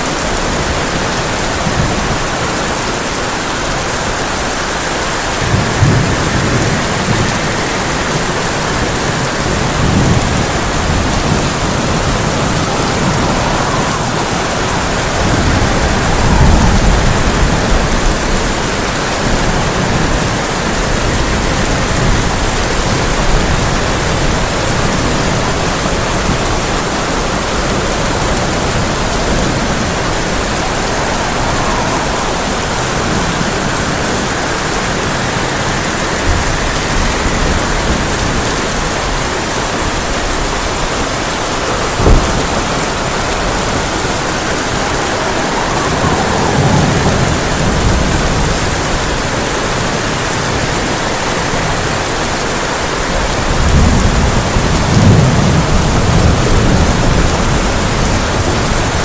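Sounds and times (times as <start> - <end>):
heavy rain on a tin roof: 0.0 - 59.0
low rumble of thunder: 5.0 - 50.8, 53.1 - 59.0.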